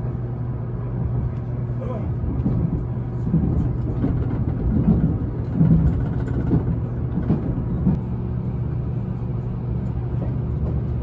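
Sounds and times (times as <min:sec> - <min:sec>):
electric train running hum: 0:00.0 - 0:11.0.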